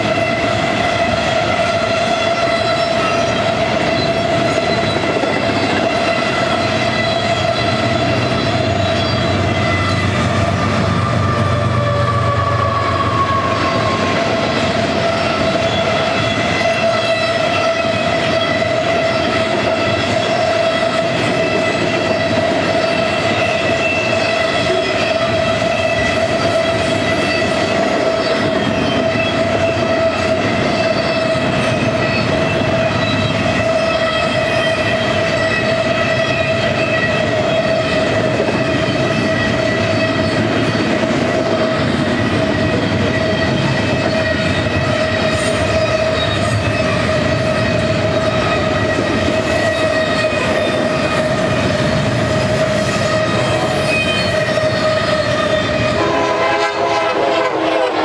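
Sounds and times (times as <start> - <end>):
high-pitched wheel squeal: 0.0 - 41.0, 41.6 - 56.3
train cars rumbling past: 0.0 - 58.0.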